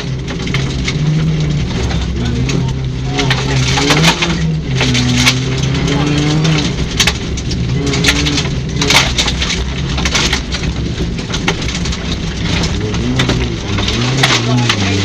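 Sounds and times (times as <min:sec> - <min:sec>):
rally car engine: 0:00.0 - 0:15.0
stones clattering against car: 0:00.0 - 0:15.0.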